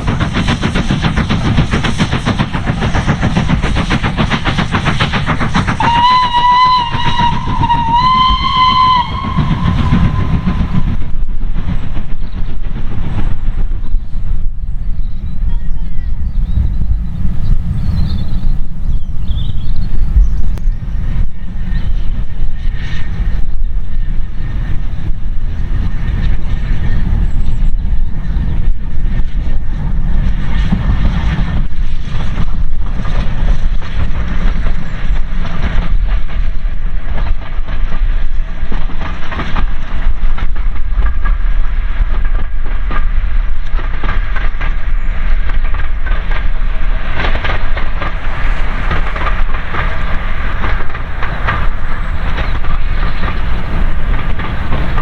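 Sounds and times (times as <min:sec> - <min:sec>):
heavy train rumble: 0:00.0 - 0:55.0
steam train wheels clattering: 0:00.0 - 0:55.0.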